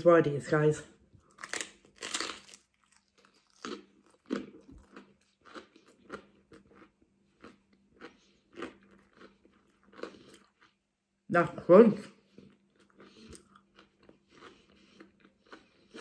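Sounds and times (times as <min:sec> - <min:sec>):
crunchy bread being chewed: 0:01.2 - 0:11.2, 0:12.2 - 0:16.0.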